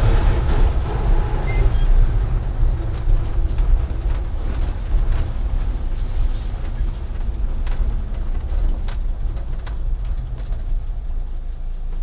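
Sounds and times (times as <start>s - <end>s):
pickup engine and road rumble: 0.0s - 12.0s.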